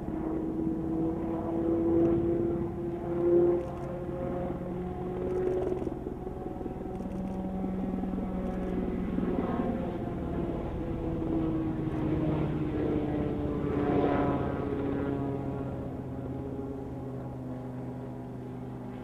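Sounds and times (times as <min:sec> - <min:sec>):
helicopter droning: 0:00.0 - 0:19.0.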